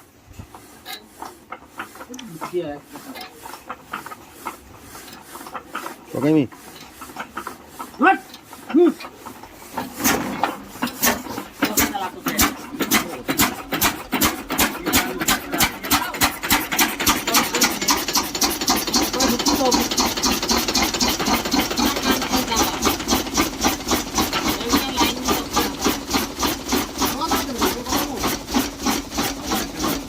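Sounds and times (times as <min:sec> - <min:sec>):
stationary engine running: 0:01.2 - 0:30.0.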